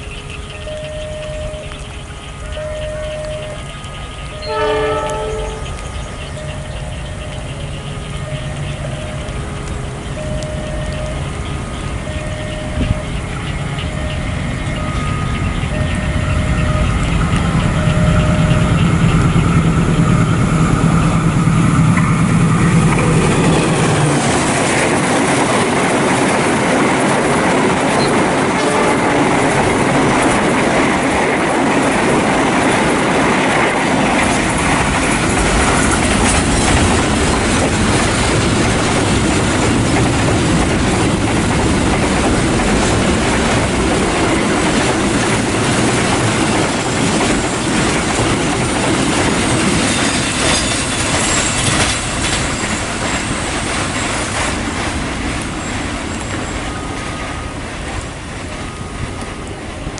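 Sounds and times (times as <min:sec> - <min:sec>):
locomotive engine hum: 0:00.0 - 0:59.9
train wheels clattering on rails: 0:00.0 - 0:59.9.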